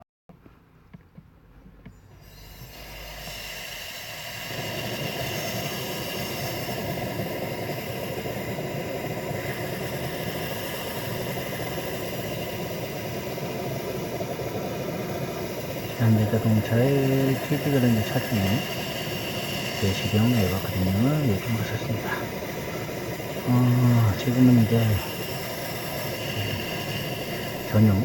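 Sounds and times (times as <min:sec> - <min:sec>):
hiss: 0:02.1 - 0:28.0.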